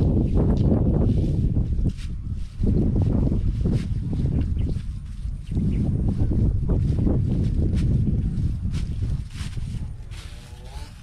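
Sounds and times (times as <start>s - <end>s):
soft brushing sounds: 0.0s - 11.0s
wind rumbling on microphone: 0.0s - 11.0s.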